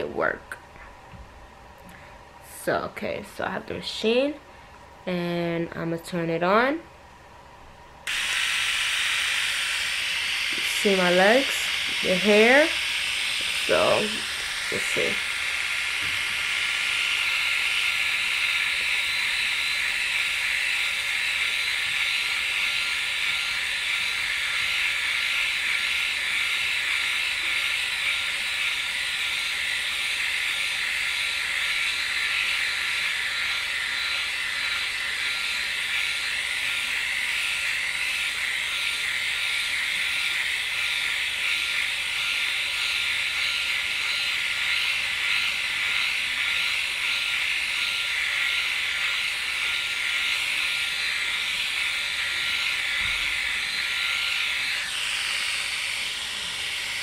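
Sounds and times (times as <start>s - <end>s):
electric hair remover running: 8.0s - 57.0s.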